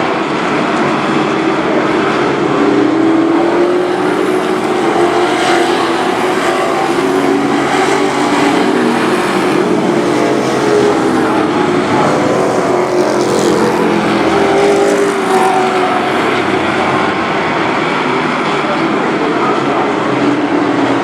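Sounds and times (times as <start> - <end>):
race truck engines racing: 0.0 - 21.0.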